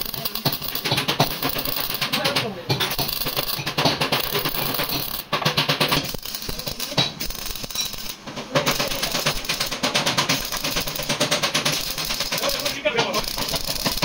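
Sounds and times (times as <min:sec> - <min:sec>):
rapid tapping: 0:00.0 - 0:14.0.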